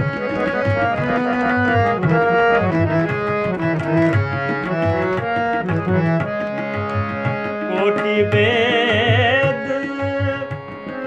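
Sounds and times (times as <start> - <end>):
harmonium melody: 0.0 - 11.0
tabla rhythm: 0.0 - 11.0.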